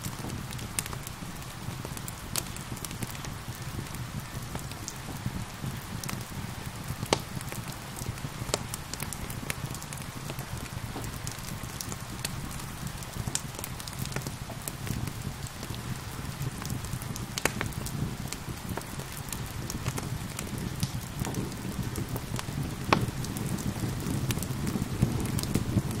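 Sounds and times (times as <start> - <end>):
rain hissing: 0.0 - 26.0
wood fire crackling and popping: 0.0 - 26.0.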